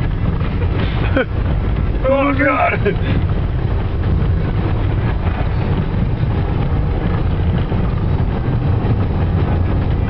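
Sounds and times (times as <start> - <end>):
car engine rumbling: 0.0 - 10.0
tyres on dirt road: 0.0 - 10.0.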